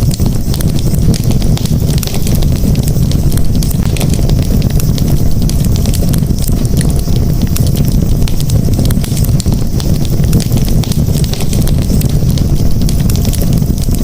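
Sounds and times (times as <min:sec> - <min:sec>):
campfire crackling: 0:00.0 - 0:14.0
low rumble of flames: 0:00.0 - 0:14.0.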